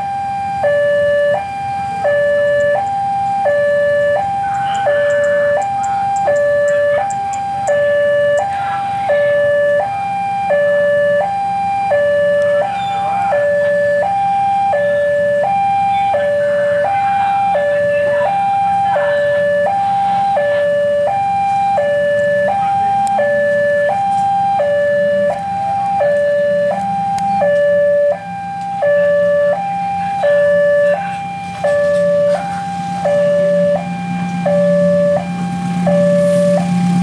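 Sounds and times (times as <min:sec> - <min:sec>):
level crossing alarm two-tone signal: 0:00.0 - 0:37.0
low rumble of traffic: 0:00.0 - 0:37.0.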